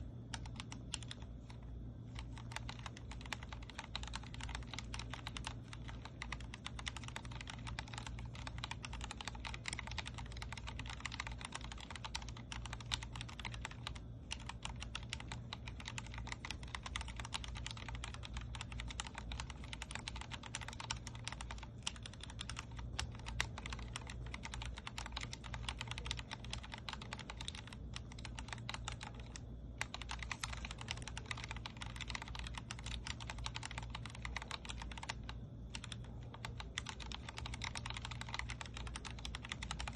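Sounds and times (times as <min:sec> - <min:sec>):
fast typing on mechanical keyboard: 0:00.0 - 0:39.9
steady low hum: 0:00.0 - 0:39.9.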